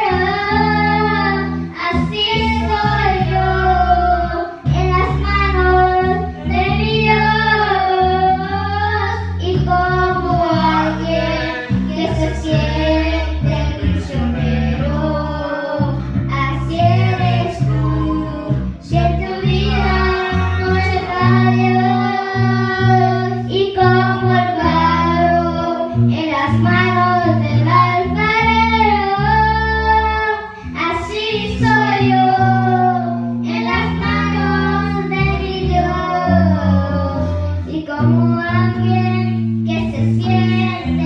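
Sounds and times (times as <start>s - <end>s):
deep steady bass line: 0.0s - 41.0s
electric guitar: 0.0s - 41.0s
girl singing into a microphone: 0.0s - 41.0s.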